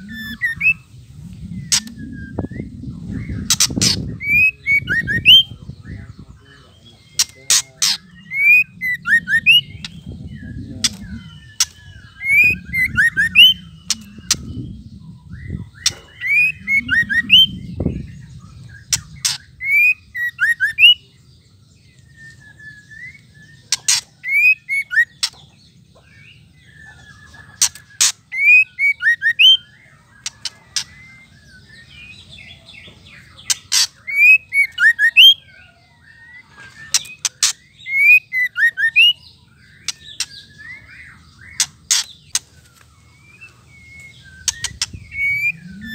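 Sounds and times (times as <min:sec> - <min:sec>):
bird whistling and clicking calls: 0:00.0 - 0:02.7, 0:03.3 - 0:05.5, 0:07.0 - 0:14.7, 0:15.4 - 0:17.6, 0:18.9 - 0:21.0, 0:21.9 - 0:25.6, 0:26.7 - 0:32.2, 0:33.2 - 0:35.6, 0:36.3 - 0:45.9.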